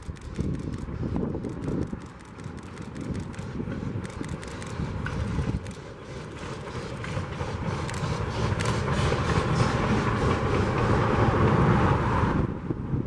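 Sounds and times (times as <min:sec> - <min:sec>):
wheels clicking on rails: 0:00.0 - 0:12.4
steam locomotive running past: 0:00.3 - 0:13.0.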